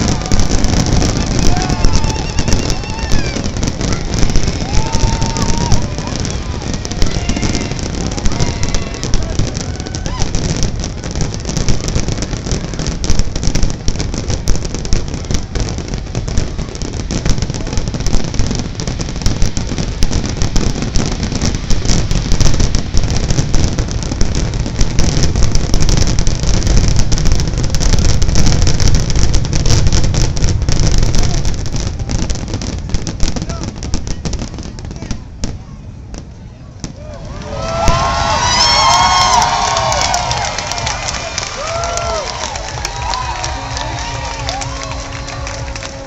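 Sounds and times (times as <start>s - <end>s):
fireworks booming and crackling: 0.0s - 46.0s.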